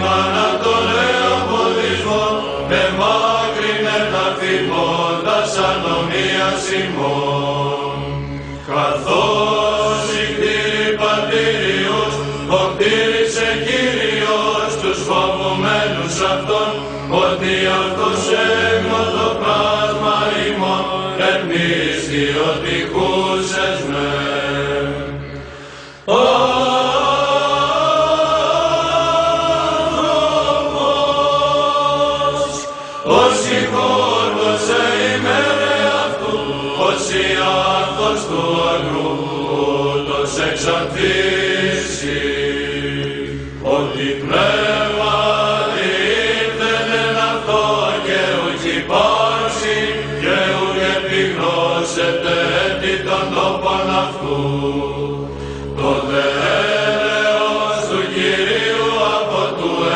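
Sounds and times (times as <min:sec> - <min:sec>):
low vocal drone: 0:00.0 - 0:59.9
male choir chanting: 0:00.0 - 0:59.9.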